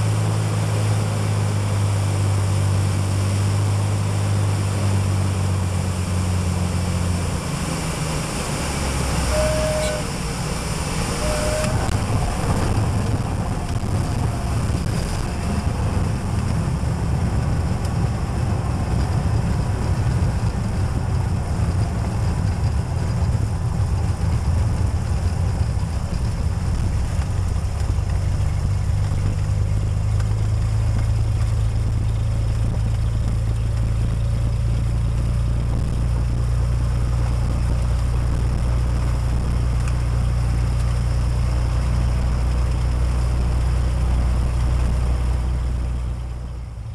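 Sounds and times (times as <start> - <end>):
airplane engine drone from cabin: 0.0 - 46.9.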